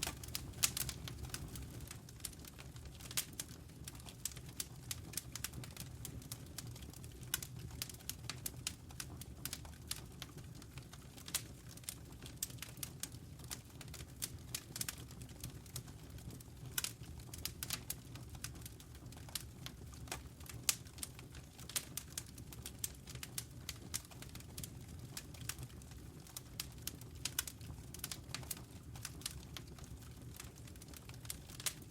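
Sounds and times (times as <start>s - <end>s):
rumble of burning flames: 0.0s - 31.9s
wood fire crackling: 0.0s - 31.9s.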